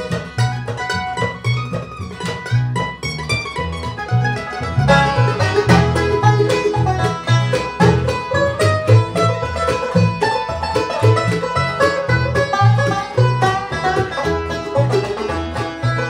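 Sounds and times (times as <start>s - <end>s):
acoustic guitar: 0.0s - 16.0s
banjo: 0.0s - 16.0s
mandolin picking quick runs: 0.0s - 16.0s
upright bass: 0.0s - 16.0s.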